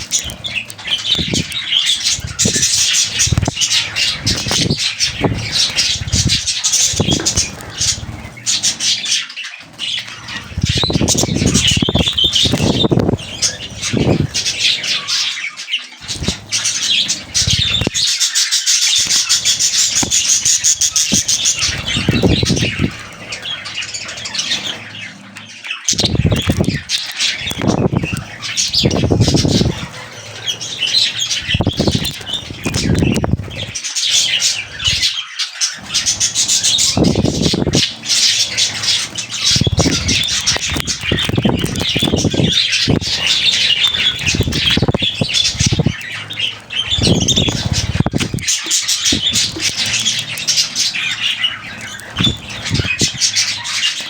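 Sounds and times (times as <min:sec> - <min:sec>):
budgerigars chattering: 0:00.0 - 0:54.0
wing flapping: 0:00.0 - 0:54.0.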